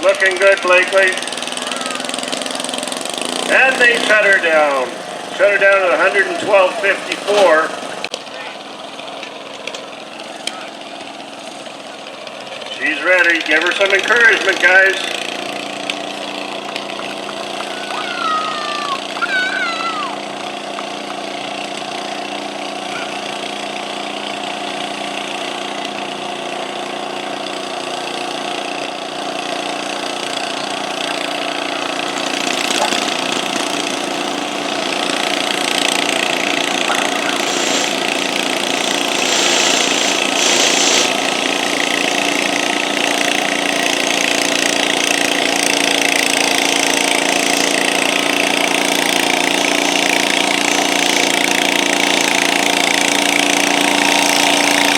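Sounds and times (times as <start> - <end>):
garden tractor engine under load: 0.0 - 54.9.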